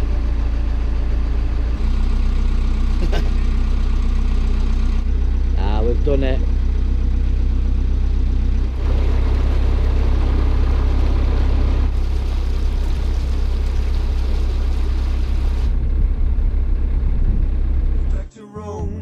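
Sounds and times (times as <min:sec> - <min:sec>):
boat diesel engine running: 0:00.0 - 0:19.0.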